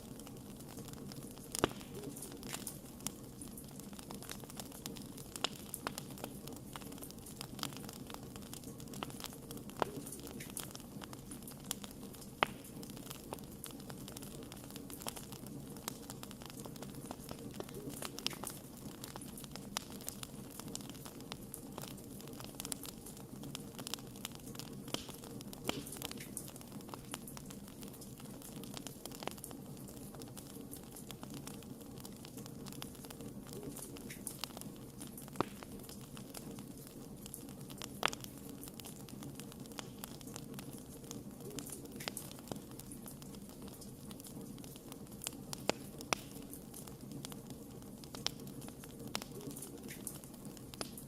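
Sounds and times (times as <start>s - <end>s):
fire popping and snapping: 0.0s - 51.0s.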